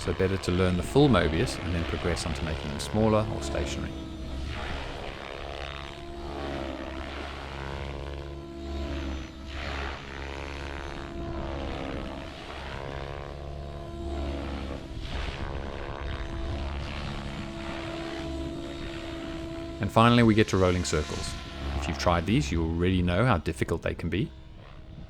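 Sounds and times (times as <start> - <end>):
rc helicopter rotor and motor: 0.0 - 25.0.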